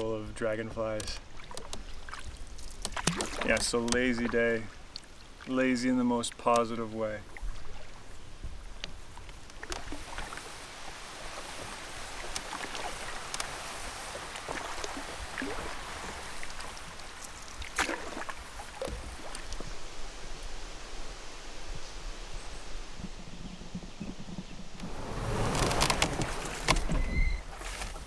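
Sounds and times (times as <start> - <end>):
water lapping against canoe: 0.6 - 22.1, 22.7 - 28.0.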